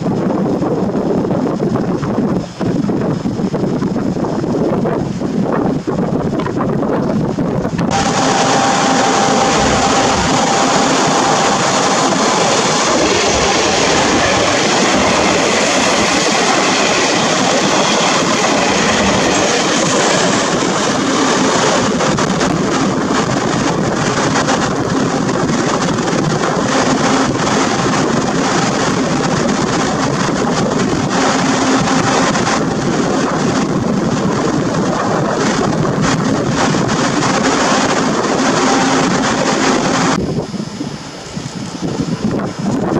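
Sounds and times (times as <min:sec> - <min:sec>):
train wheels rushing on rail: 0:00.0 - 0:42.9.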